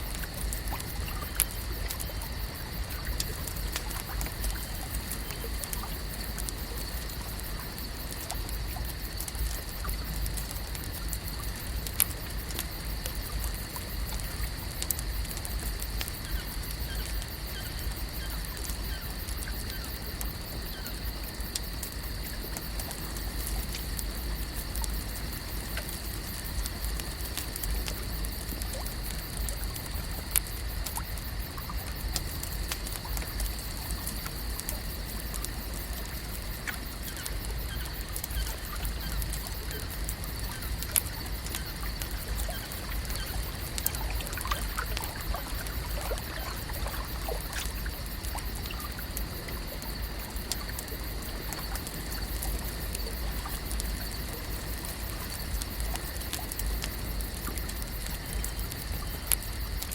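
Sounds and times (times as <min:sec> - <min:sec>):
water trickling and lapping: 0:00.0 - 0:59.9.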